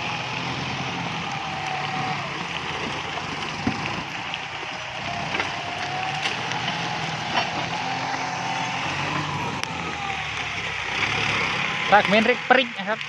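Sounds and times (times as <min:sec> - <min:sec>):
rain hissing: 0:00.0 - 0:13.0
tractor diesel engine running: 0:00.0 - 0:13.0.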